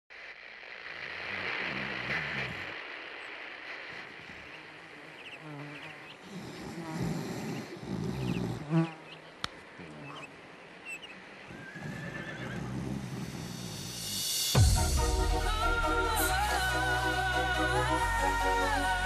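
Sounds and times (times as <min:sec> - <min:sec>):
fly buzzing: 0:00.9 - 0:19.0.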